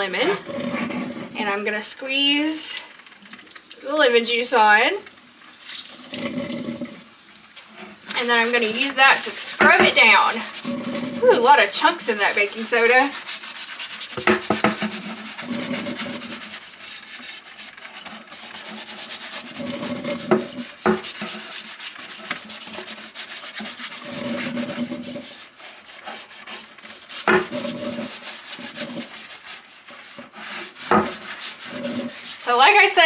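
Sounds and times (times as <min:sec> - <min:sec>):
lemon scrubbing cutting board: 0:03.2 - 0:33.0.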